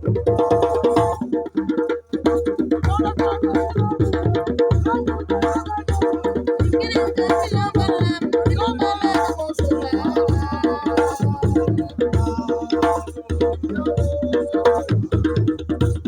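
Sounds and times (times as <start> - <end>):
drums playing busy rhythm: 0.0 - 16.0.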